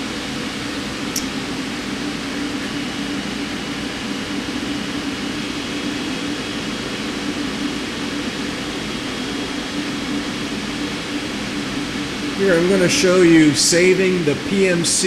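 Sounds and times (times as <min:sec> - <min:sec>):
faint high whine: 0:00.0 - 0:15.0
machine humming with hiss: 0:00.0 - 0:15.0.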